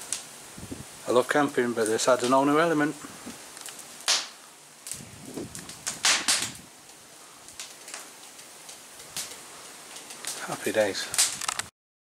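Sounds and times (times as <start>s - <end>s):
campfire crackling and popping: 0.0s - 11.7s.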